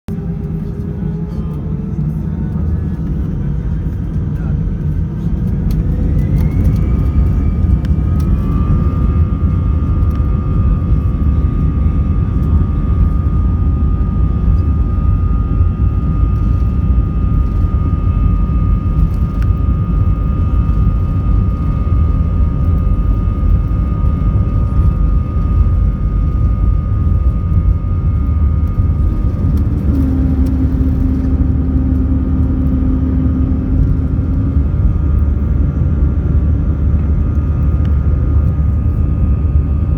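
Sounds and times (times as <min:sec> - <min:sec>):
jet engine rumble and whine: 0:00.1 - 0:39.9
low steady hum: 0:00.1 - 0:39.9.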